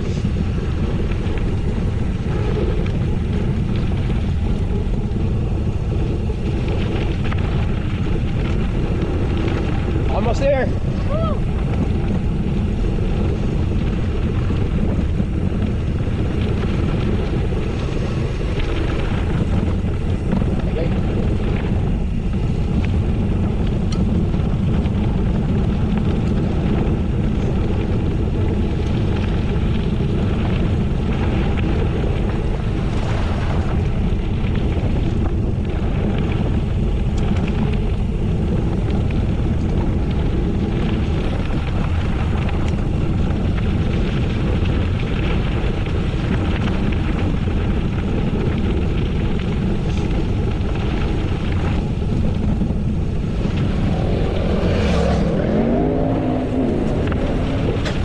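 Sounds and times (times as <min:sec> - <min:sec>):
tyres rolling on gravel: 0:00.0 - 0:58.0
wind buffeting microphone: 0:00.0 - 0:58.0.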